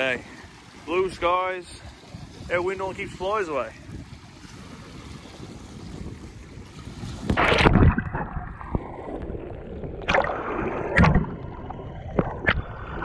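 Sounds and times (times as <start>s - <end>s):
water gurgling over microphone: 0.0s - 13.0s
water splashes: 0.0s - 13.0s.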